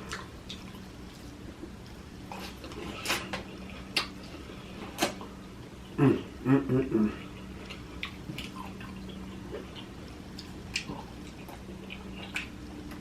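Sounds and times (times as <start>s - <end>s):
eating smacks and clicks: 0.0s - 5.3s, 7.2s - 13.0s
faint low hum: 0.0s - 13.0s.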